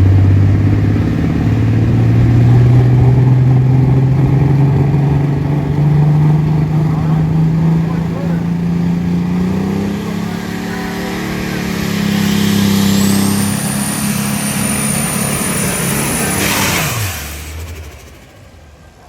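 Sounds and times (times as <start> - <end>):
diesel engine at high revs: 0.0 - 19.0.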